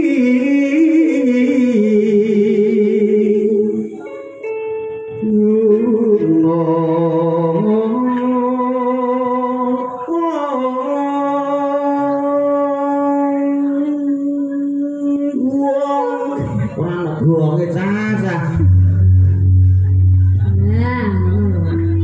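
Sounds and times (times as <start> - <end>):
live band through pa system: 0.0 - 22.0
voice singing long notes: 0.0 - 22.0.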